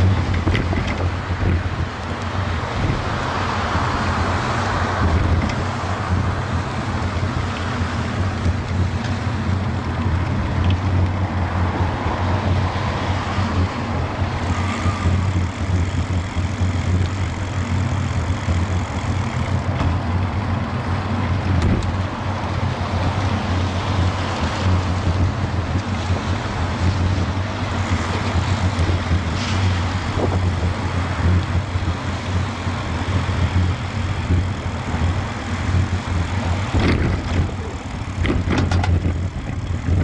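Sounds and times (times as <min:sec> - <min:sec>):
wind rumble on microphone: 0:00.0 - 0:40.0.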